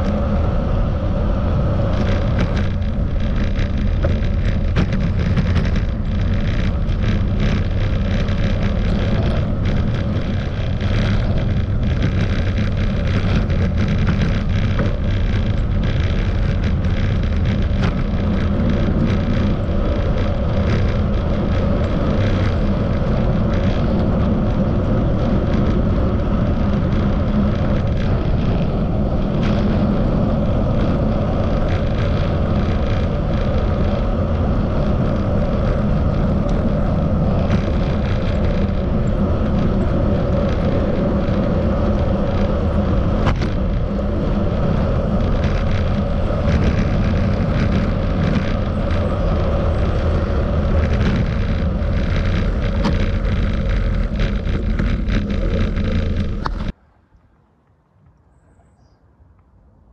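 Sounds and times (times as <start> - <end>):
wind rush: 0.0 - 56.8
bicycle road rumble: 0.0 - 59.9.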